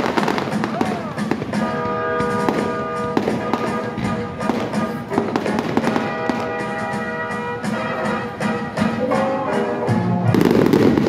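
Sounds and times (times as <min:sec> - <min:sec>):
fireworks bursting and crackling: 0:00.0 - 0:09.1, 0:10.2 - 0:11.0
loud music with held chords: 0:00.0 - 0:11.0.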